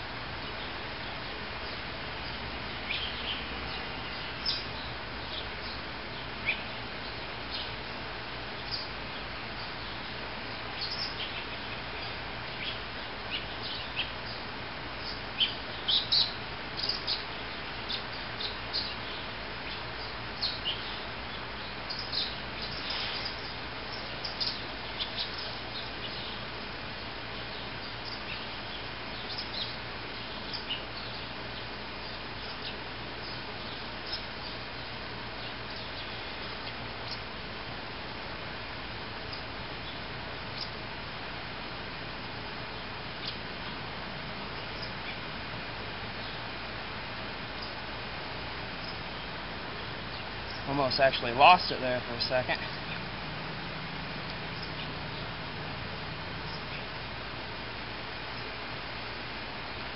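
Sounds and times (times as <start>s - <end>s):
small birds chirping: 0.0s - 59.8s
background hiss: 0.0s - 59.9s.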